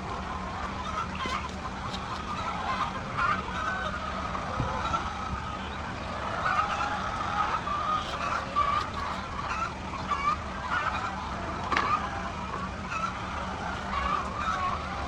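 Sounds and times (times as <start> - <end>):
chickens clucking: 0.0 - 15.0
low steady hum: 0.0 - 15.0.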